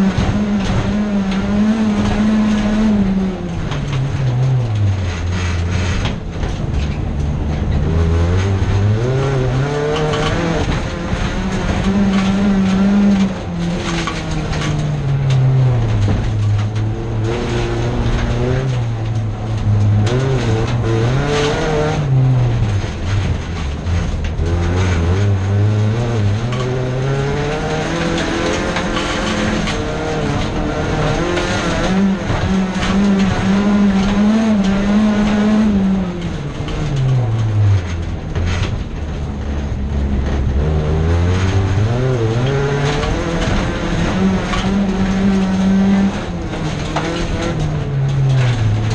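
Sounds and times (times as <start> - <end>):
car body knocks and rattles: 0.0 - 48.9
race car engine revving: 0.0 - 48.9.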